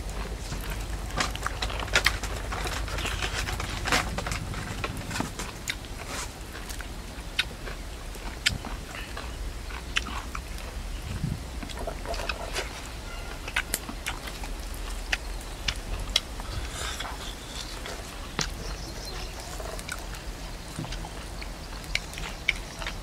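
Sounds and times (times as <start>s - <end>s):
embers crackling and popping: 0.0s - 23.0s.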